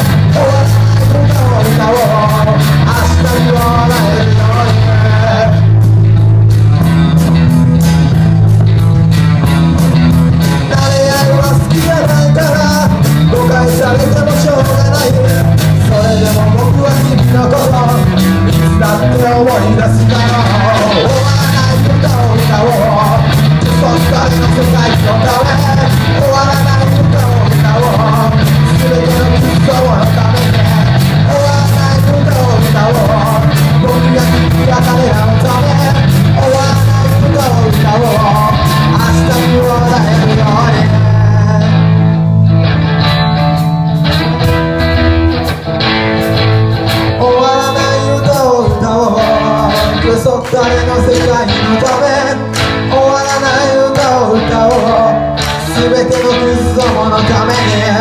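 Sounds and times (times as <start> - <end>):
person singing lead vocal: 0.0 - 42.4, 46.9 - 58.0
bass guitar: 0.0 - 58.0
distorted electric guitar: 0.0 - 58.0
drums: 0.0 - 58.0.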